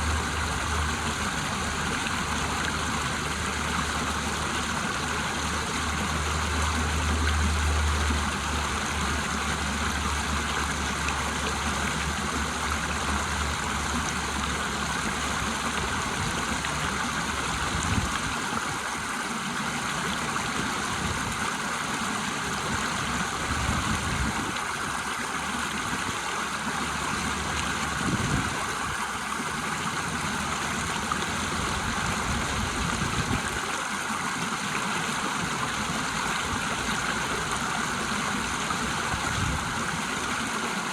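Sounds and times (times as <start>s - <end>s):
water rushing over waterfall: 0.0s - 40.9s.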